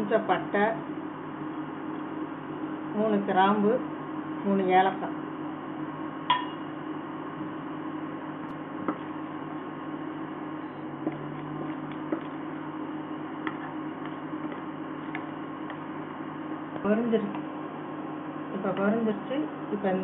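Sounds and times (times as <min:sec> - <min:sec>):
induction cooktop hum: 0:00.0 - 0:20.0.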